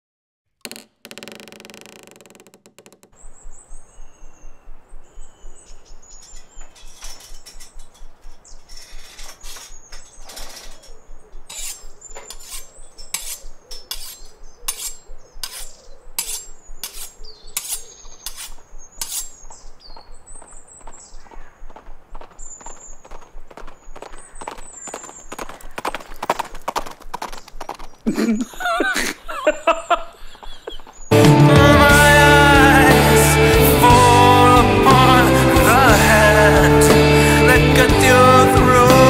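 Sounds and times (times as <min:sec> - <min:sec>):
birds chirping: 0:02.8 - 0:39.0.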